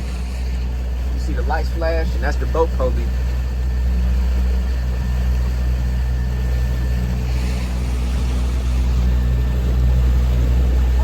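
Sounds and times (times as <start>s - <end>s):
motorboat engine droning: 0.0s - 11.0s
water noise: 0.0s - 11.0s.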